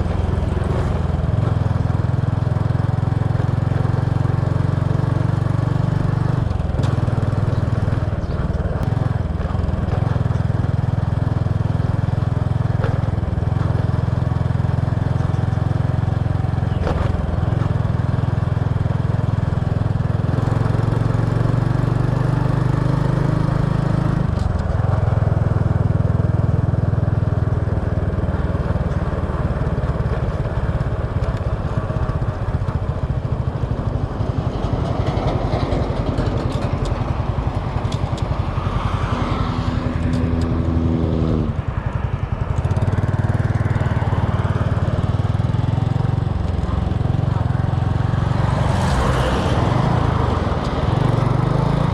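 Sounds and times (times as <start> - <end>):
motorbike engine running: 0.0 - 51.9
road noise: 0.0 - 51.9.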